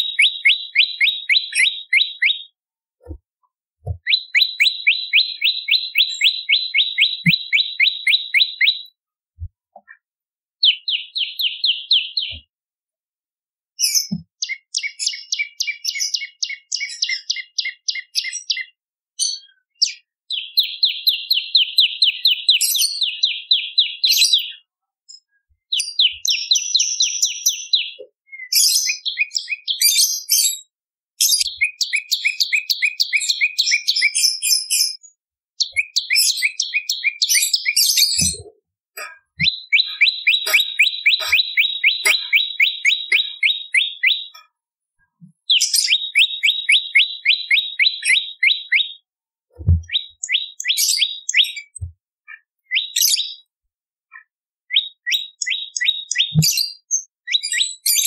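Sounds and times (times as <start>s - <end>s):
bird singing rapid high chirps: 0.0s - 2.6s, 3.9s - 9.0s, 10.6s - 12.5s, 13.8s - 24.7s, 25.7s - 30.6s, 31.2s - 44.5s, 45.4s - 53.5s, 54.1s - 58.0s.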